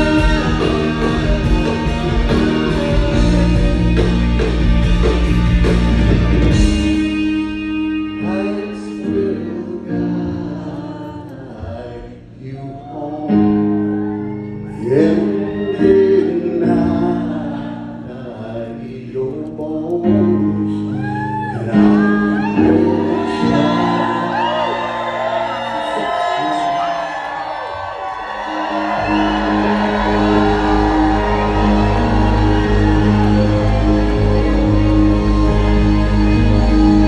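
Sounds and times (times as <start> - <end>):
electric guitar chords: 0.0 - 12.6, 13.4 - 37.0
person singing: 0.0 - 27.1, 28.5 - 37.0.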